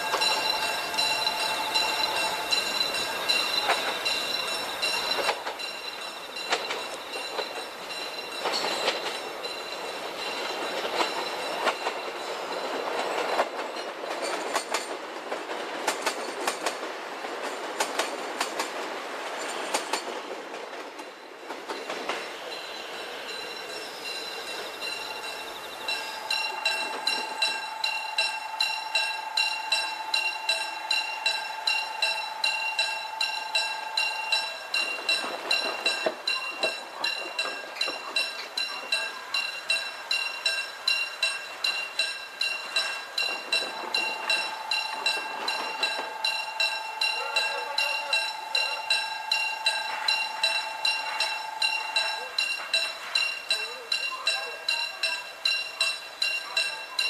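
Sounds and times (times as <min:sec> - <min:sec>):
diesel train passing: 0:00.0 - 0:57.0
wheels clicking over rail joints: 0:00.0 - 0:57.0.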